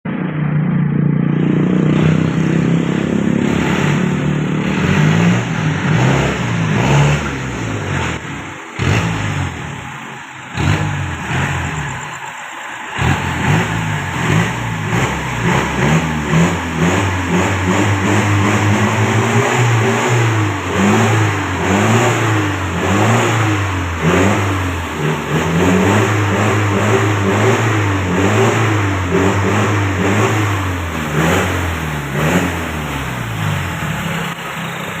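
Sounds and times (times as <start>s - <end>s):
diesel engine revving: 0.1s - 35.0s.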